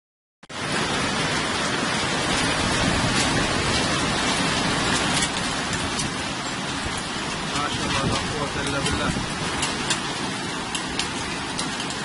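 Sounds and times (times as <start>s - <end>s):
heavy rain falling: 0.5s - 12.0s.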